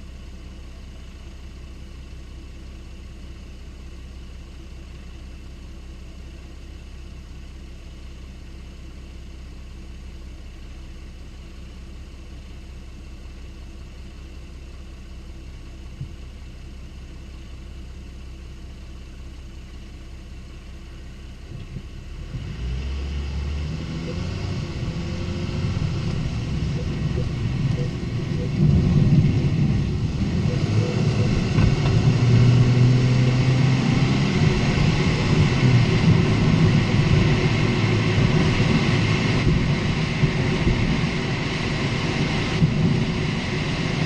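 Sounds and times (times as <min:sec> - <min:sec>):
car engine idling: 0:00.0 - 0:22.3, 0:22.9 - 0:44.0.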